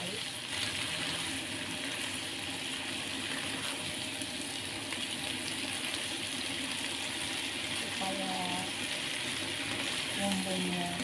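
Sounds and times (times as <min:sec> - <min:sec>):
greens sizzling in a hot pan: 0:00.0 - 0:11.0.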